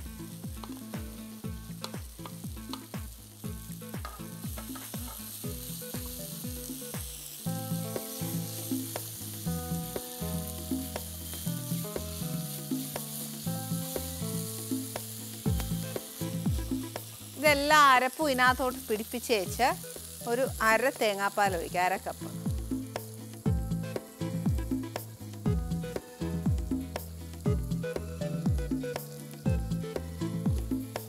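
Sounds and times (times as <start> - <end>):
background music with a beat: 0.0 - 17.8, 19.5 - 20.8, 22.1 - 31.0
vegetables sizzling in a pan: 0.0 - 31.0.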